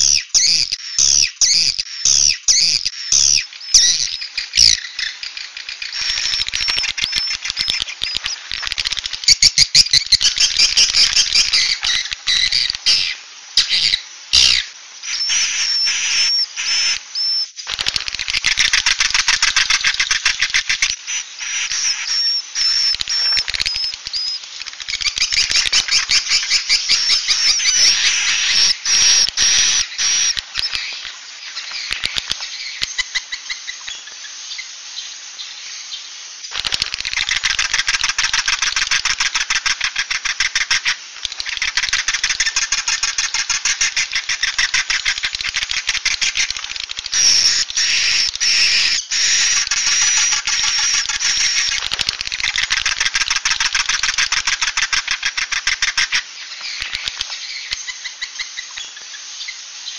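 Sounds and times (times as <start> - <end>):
swiftlet chittering calls: 0.0 - 59.9.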